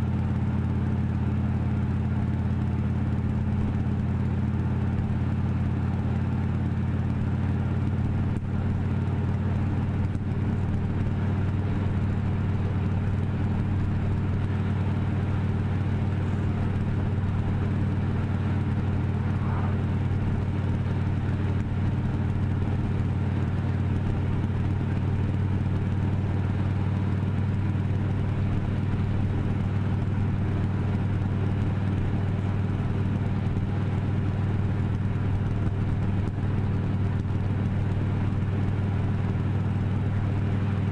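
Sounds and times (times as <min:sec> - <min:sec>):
road noise: 0:00.0 - 0:40.9
vehicle engine humming: 0:00.0 - 0:40.9.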